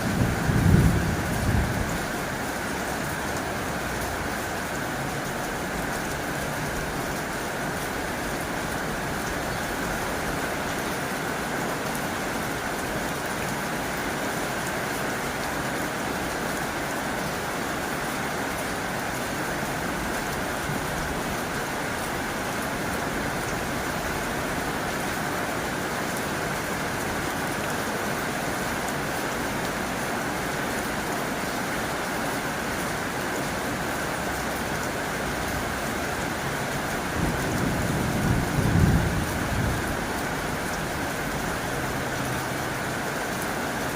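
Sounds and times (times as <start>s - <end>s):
heavy rain on a tin roof: 0.0s - 43.9s.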